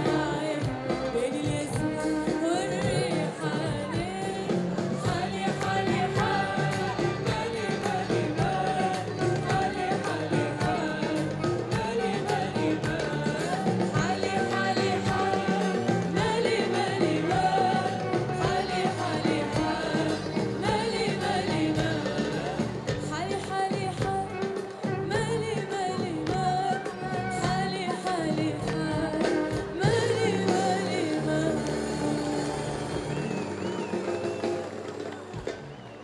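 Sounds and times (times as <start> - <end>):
woman singing into a microphone: 0.0 - 33.1
live band with bass and drums: 0.0 - 36.0.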